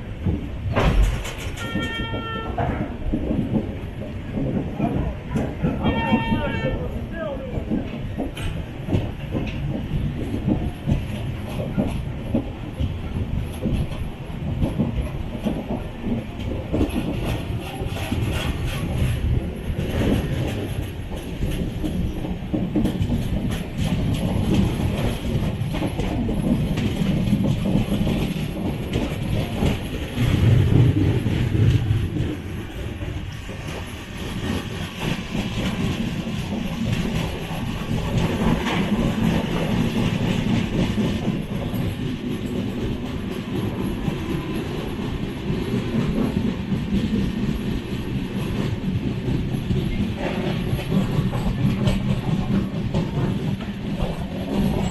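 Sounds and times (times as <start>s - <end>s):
train rumble and wheel clatter: 0.0s - 54.9s.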